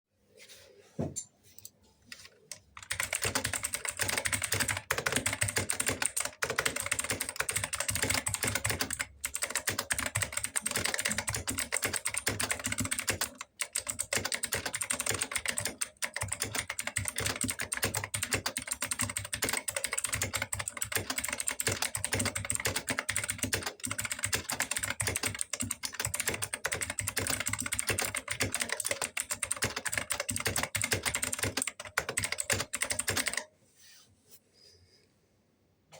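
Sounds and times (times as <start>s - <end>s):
mechanical keyboard typing: 2.5s - 33.4s.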